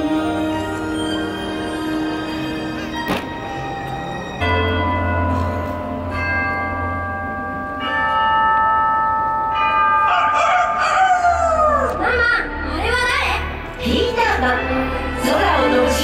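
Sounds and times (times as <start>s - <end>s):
large clock bell tolling: 2.3s - 15.7s.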